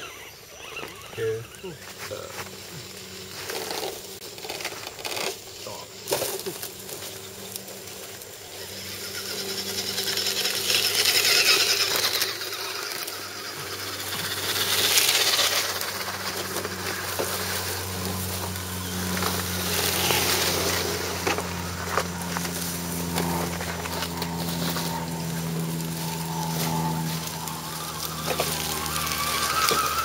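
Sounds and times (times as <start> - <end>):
electric motors humming: 0.0 - 30.0
leaves crackling under tyres: 0.0 - 30.0.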